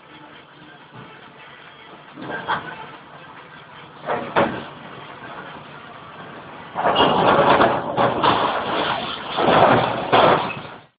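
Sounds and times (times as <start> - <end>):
metal and rock crashing: 2.1 - 10.9.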